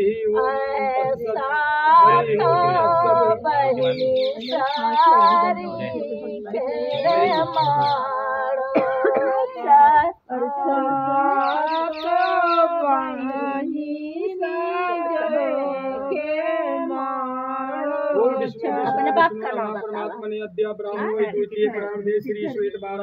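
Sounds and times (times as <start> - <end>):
women singing unaccompanied: 0.0 - 22.6.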